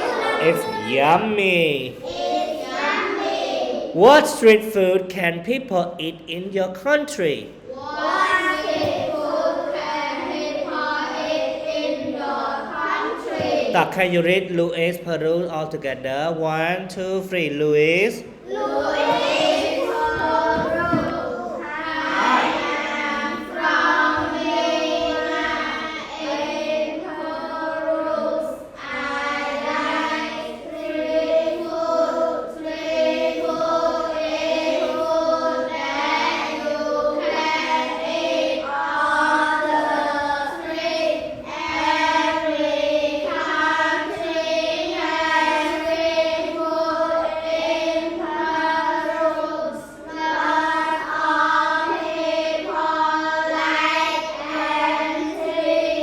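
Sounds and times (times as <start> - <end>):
children reading aloud in unison: 0.0 - 56.0.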